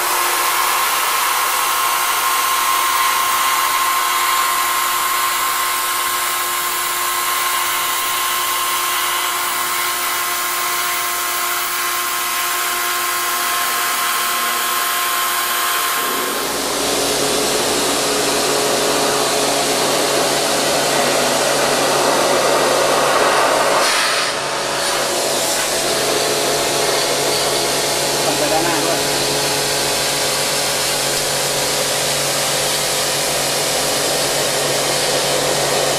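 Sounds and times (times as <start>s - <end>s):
pressure washer drone: 0.0s - 35.9s.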